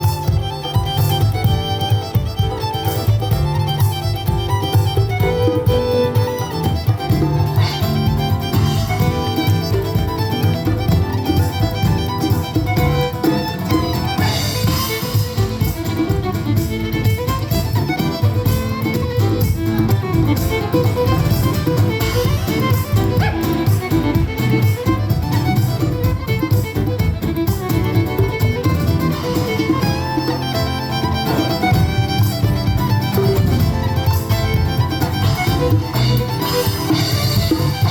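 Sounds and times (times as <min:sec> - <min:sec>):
live band music led by fiddle: 0:00.0 - 0:37.9.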